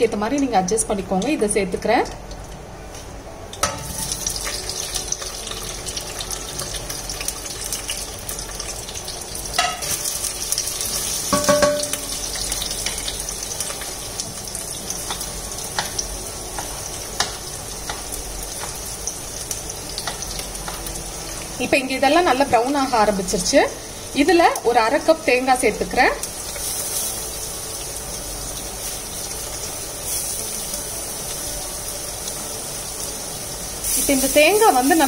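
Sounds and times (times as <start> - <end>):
onions sizzling in hot oil: 0.0 - 35.0.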